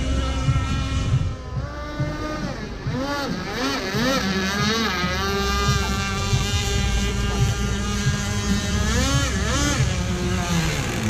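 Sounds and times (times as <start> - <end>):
model speedboat motor: 0.0 - 11.0.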